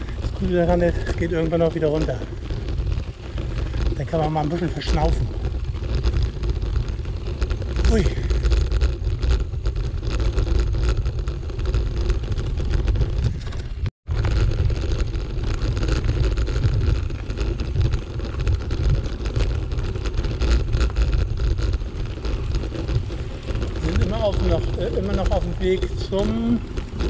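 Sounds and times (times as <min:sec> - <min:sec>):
bicycle tyres on gravel: 0:00.0 - 0:27.0
small crunches and clicks: 0:00.0 - 0:27.0
wind on microphone: 0:00.0 - 0:27.0.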